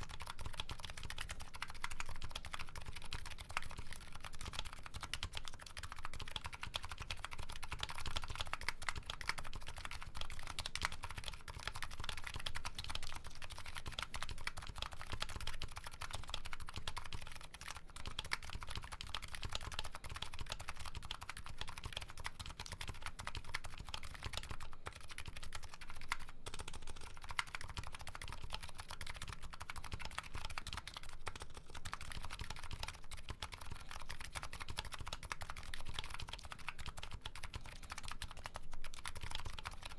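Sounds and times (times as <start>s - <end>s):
keyboard typing clacks: 0.0s - 39.9s.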